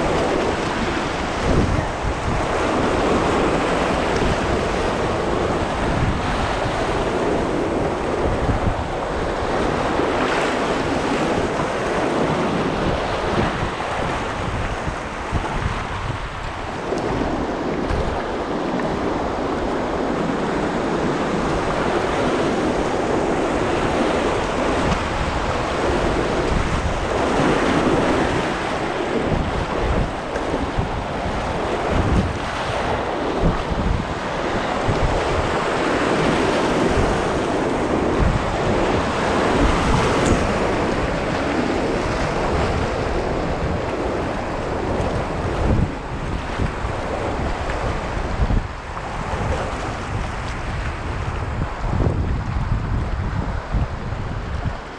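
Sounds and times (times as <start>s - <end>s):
river water rushing: 0.0s - 54.9s
wind buffeting microphone: 0.0s - 54.9s.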